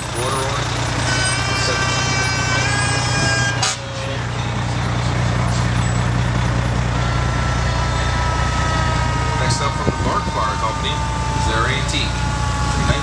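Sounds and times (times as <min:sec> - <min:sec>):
fire truck engines droning: 0:00.0 - 0:13.0.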